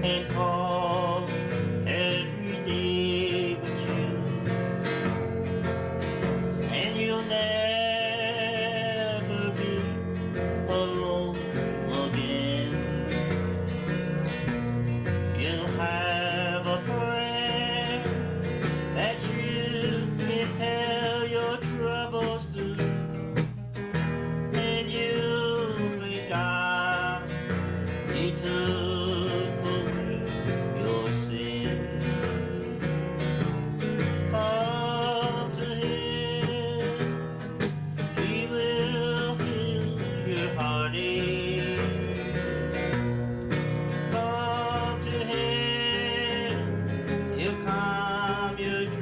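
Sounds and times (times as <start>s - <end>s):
country gospel band playing: 0.0s - 49.0s
lead guitar: 0.0s - 49.0s.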